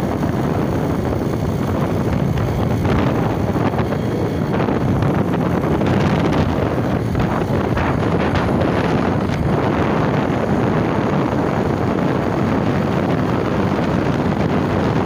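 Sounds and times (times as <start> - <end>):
motorcycle running: 0.0 - 15.0
wind rushing over microphone: 0.0 - 15.0.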